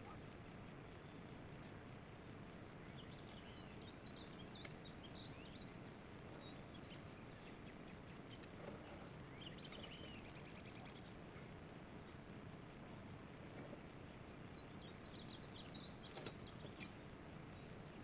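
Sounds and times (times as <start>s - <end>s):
faint birds chirping: 0.0s - 18.0s
low outdoor hiss: 0.0s - 18.0s.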